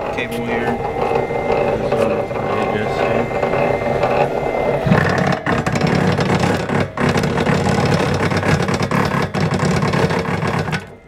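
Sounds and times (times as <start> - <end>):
wire stripping machine running: 0.0 - 11.0.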